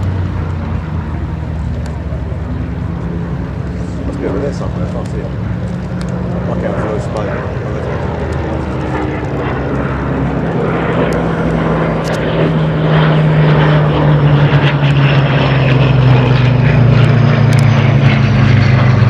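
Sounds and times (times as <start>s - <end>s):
propeller aircraft engine passing: 0.0s - 19.0s.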